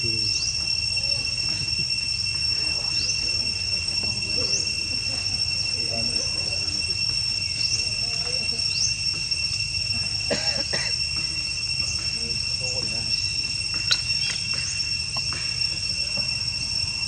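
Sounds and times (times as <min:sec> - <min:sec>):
faint calls: 0:00.0 - 0:17.0
high-pitched insect drone: 0:00.0 - 0:17.0.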